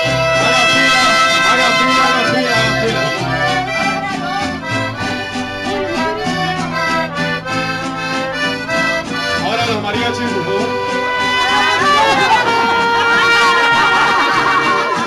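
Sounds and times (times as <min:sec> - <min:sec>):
bass line: 0:00.0 - 0:15.0
guitar strumming: 0:00.0 - 0:15.0
mariachi band playing: 0:00.0 - 0:15.0.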